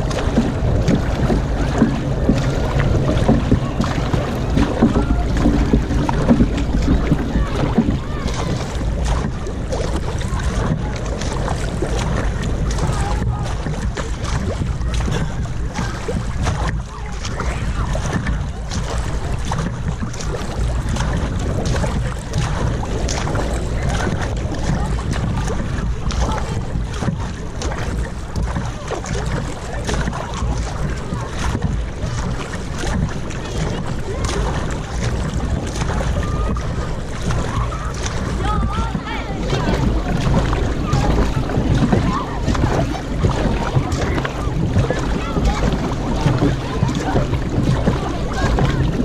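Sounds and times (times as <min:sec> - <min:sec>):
paddle blades splashing: 0:00.0 - 0:49.0
water rushing along hull: 0:00.0 - 0:49.0
wind buffeting microphone: 0:00.0 - 0:49.0.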